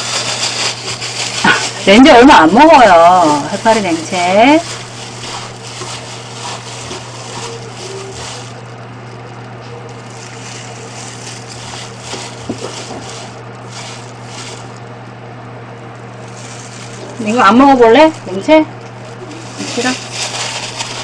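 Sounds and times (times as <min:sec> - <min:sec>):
gloved hand rustling food: 0:00.0 - 0:15.1, 0:15.8 - 0:21.0
steady low hum: 0:00.0 - 0:21.0.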